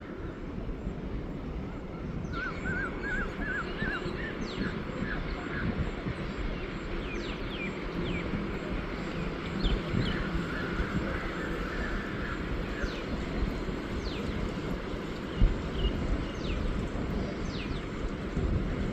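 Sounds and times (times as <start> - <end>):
steady low rumble: 0.0 - 18.9.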